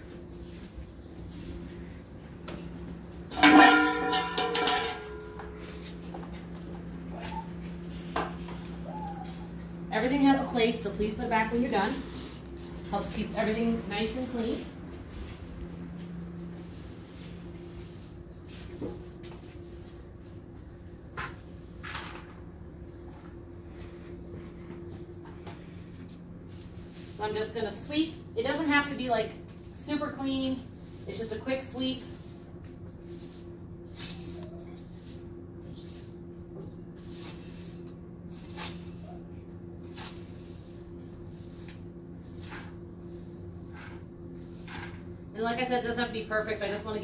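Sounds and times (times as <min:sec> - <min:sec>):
steady low hum: 0:00.0 - 0:47.0
broom sweeping concrete floor: 0:00.1 - 0:07.4, 0:09.9 - 0:47.0.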